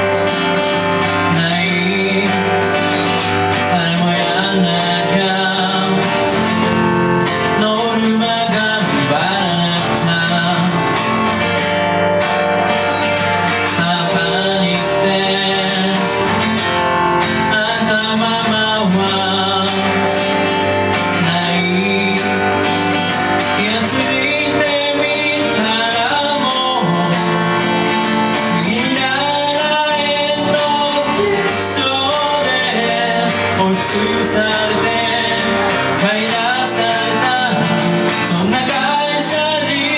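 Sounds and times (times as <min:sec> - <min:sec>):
acoustic guitar strumming: 0:00.0 - 0:39.9
keyboard accompaniment: 0:00.0 - 0:39.9
man singing: 0:00.0 - 0:39.9.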